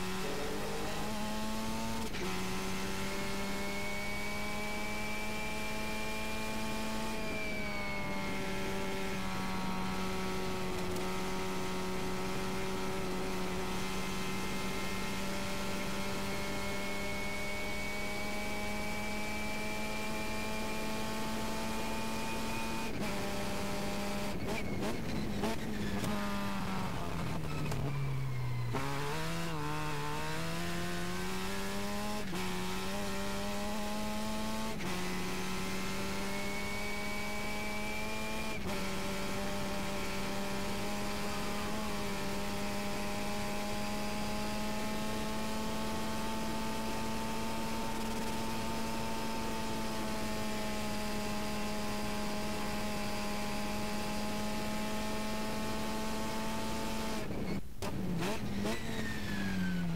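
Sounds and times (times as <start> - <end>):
wind and tyre rush: 0.0 - 52.9, 57.0 - 59.9
race car engine at full throttle: 0.0 - 59.9.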